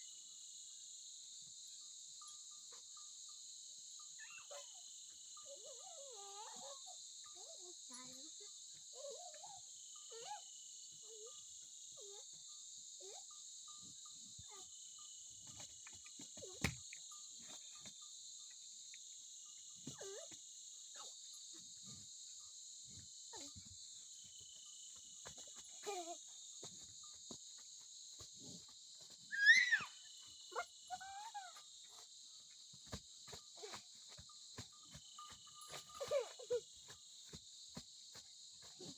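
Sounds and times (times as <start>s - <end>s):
insects chirping chorus: 0.0s - 38.9s.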